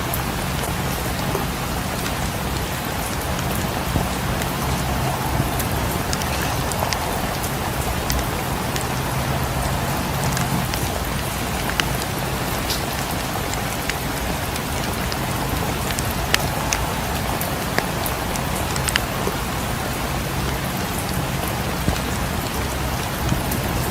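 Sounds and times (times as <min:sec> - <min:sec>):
rain on windows and roof: 0:00.0 - 0:23.9
wood fire crackling: 0:00.1 - 0:23.9.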